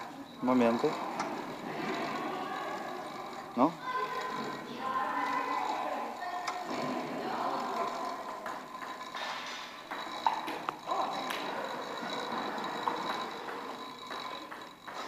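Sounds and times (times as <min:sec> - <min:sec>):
exercise bike pedals and flywheel whine: 0:00.0 - 0:15.0.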